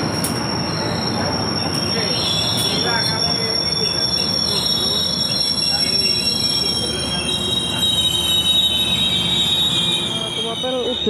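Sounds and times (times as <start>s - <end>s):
train wheels squealing: 0.0s - 11.0s.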